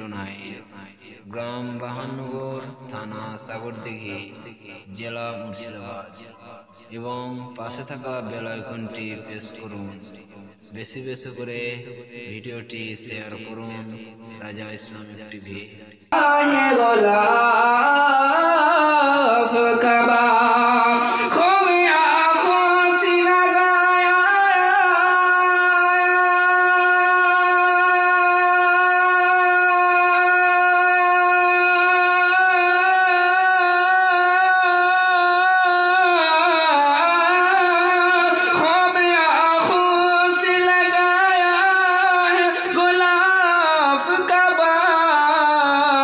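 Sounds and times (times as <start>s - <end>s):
man singing: 0.0s - 46.0s.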